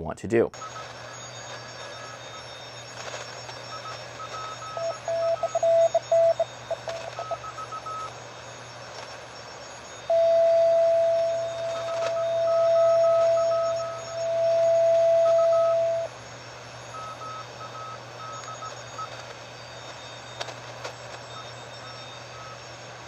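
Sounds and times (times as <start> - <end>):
radio band hiss: 0.5 - 23.0
steady radio tone: 0.5 - 23.0
high-pitched morse code: 0.6 - 8.2, 9.9 - 16.2, 16.8 - 22.6
low-pitched morse code: 0.6 - 23.0.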